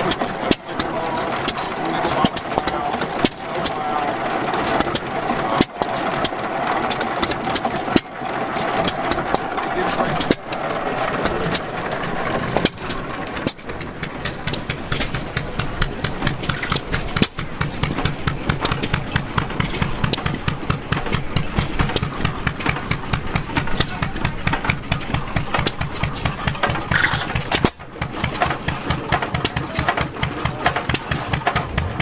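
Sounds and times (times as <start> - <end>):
old gas engine running: 0.0 - 32.0.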